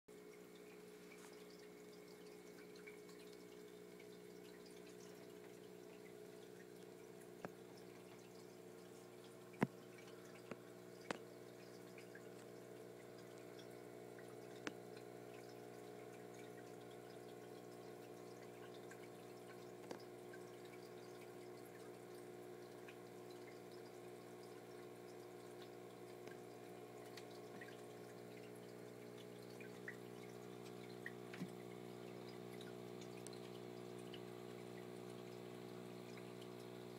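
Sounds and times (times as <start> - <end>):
hum of aquarium pumps: 0.1 - 36.9
water trickling from filter: 0.1 - 36.9.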